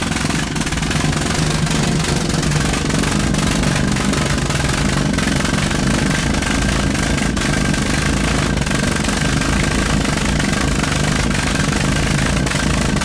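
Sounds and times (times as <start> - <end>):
pulse jet running loudly: 0.0 - 13.0.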